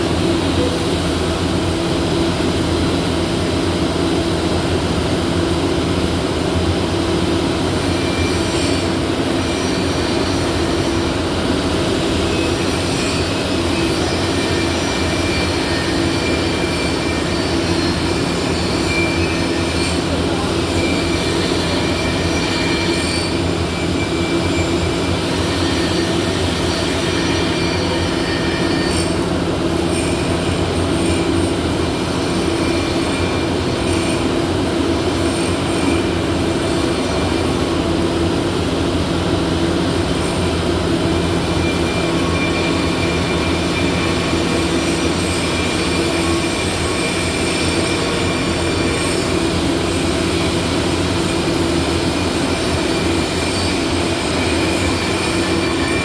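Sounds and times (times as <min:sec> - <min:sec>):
loud machine drone: 0:00.0 - 0:56.0.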